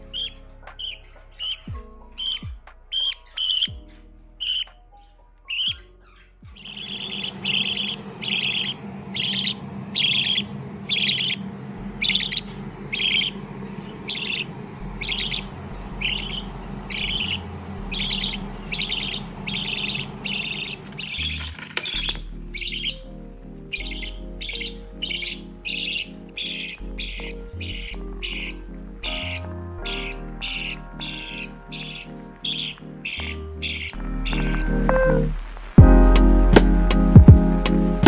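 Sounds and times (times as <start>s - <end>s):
budgerigar chirping: 0.0s - 11.4s, 12.0s - 34.8s
background music with bass: 0.0s - 38.0s.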